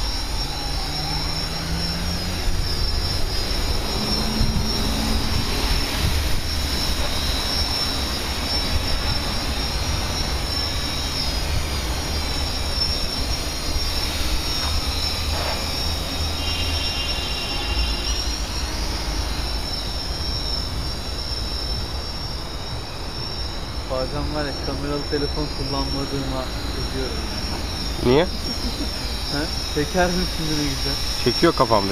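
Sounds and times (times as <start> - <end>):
drone motors whining: 0.0 - 31.9.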